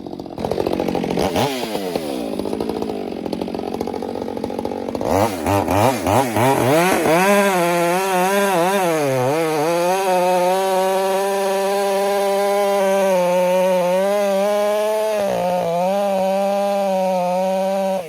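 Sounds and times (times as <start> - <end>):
chainsaw revving and cutting: 0.0 - 18.0.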